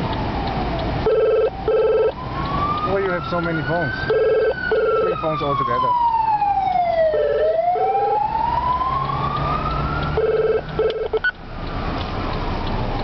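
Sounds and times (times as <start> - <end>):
siren wail: 0.0 - 13.0.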